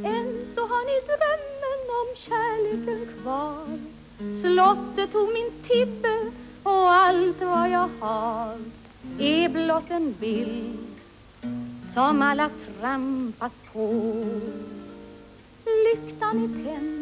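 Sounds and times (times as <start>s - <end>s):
woman singing with vibrato: 0.0s - 11.0s, 11.8s - 17.0s.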